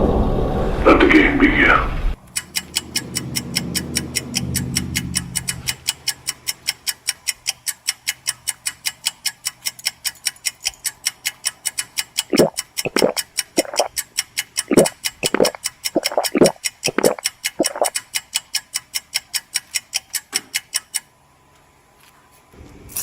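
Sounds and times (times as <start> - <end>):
timer ticking: 2.2 - 21.1.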